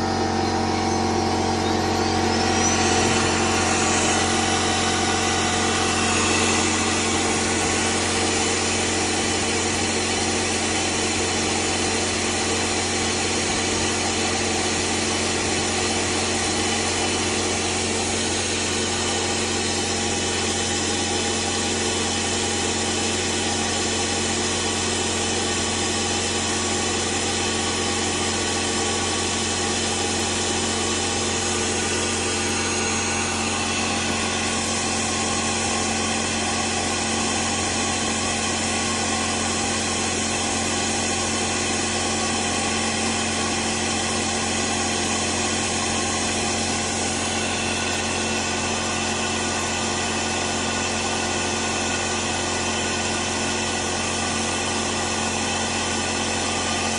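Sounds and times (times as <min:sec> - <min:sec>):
machine humming and whining: 0:00.0 - 0:56.9.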